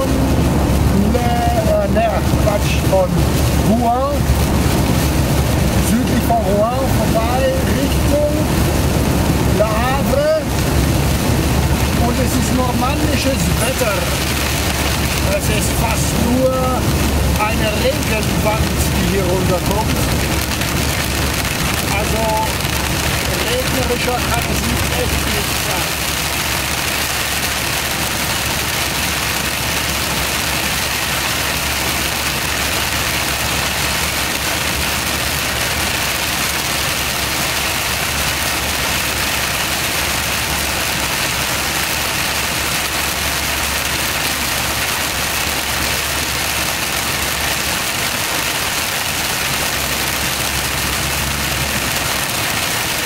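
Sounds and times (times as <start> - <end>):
tyres hissing on wet road: 0.0 - 53.0.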